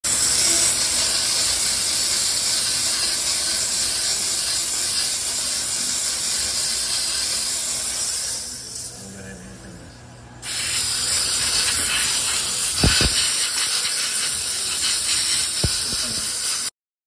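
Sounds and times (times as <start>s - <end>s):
steam jet hissing: 0.1s - 8.7s, 10.4s - 16.7s.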